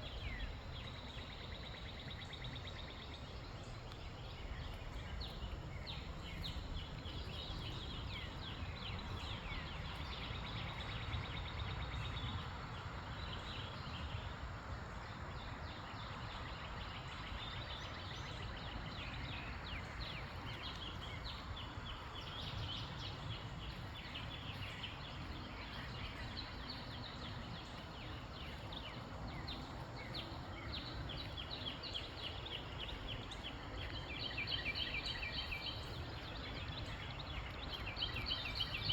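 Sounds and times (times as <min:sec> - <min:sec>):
small birds chirping: 0:00.0 - 0:14.3, 0:15.5 - 0:38.9
wind rumble on microphone: 0:00.0 - 0:38.9.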